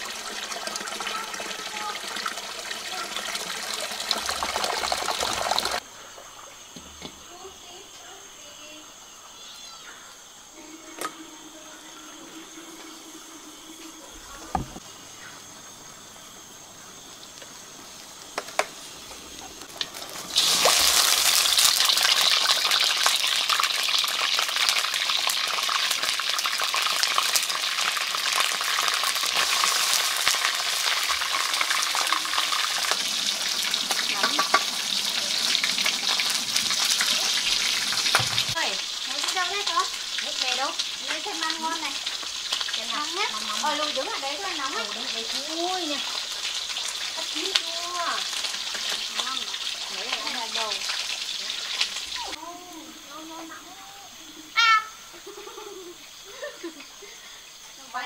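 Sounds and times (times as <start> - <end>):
food sizzling in hot oil: 0.0 - 5.8, 10.5 - 58.0.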